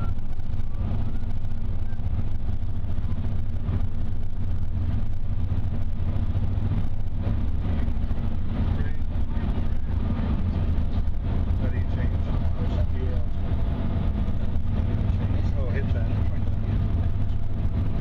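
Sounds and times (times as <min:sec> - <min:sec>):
car driving rumble: 0:00.0 - 0:18.0
freight train rolling past: 0:00.0 - 0:18.0.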